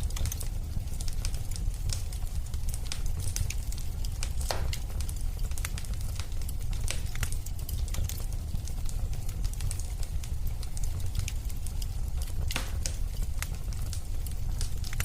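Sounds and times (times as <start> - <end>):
fire crackles and snaps: 0.0 - 15.0
fire rumbling in fireplace: 0.0 - 15.0.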